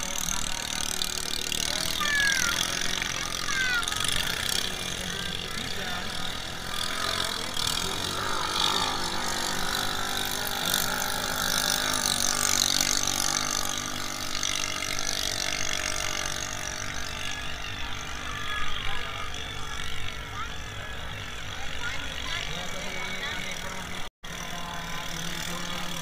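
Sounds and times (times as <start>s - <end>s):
racing boat engines droning: 0.0s - 26.0s.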